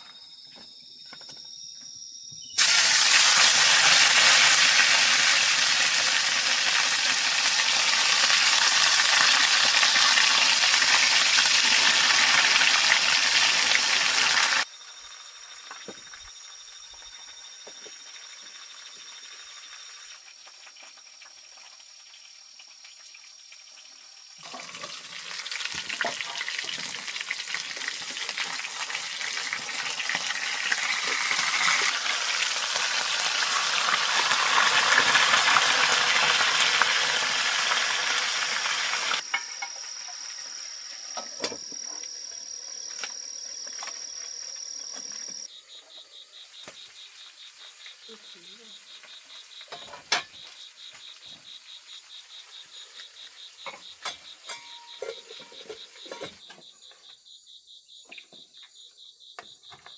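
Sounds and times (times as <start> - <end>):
food sizzling in a hot pan: 2.6 - 14.7, 18.0 - 44.6, 46.4 - 56.4.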